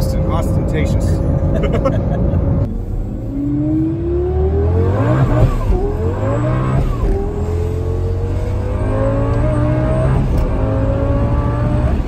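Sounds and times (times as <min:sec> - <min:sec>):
car engine accelerating hard: 0:01.2 - 0:12.0.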